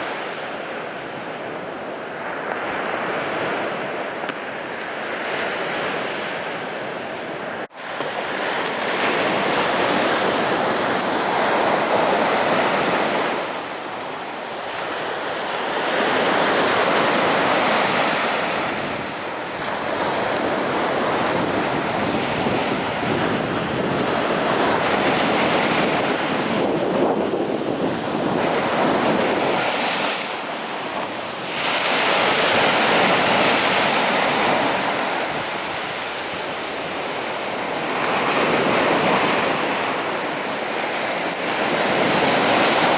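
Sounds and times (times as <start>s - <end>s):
sea waves breaking on a beach: 0.0s - 42.9s.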